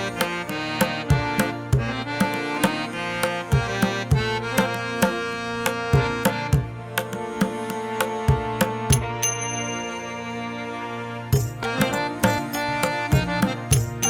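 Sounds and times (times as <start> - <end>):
hand drum beat: 0.2 - 9.2, 11.4 - 14.0.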